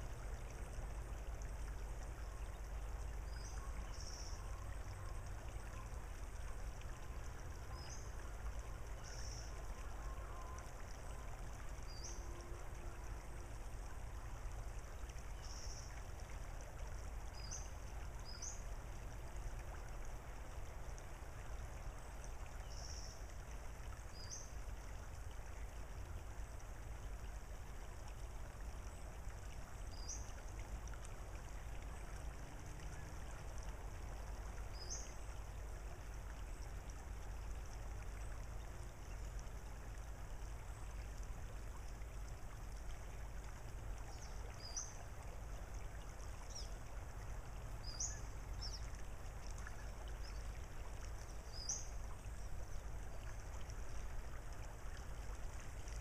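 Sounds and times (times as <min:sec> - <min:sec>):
water: 0:00.0 - 0:56.0
wind: 0:00.0 - 0:56.0.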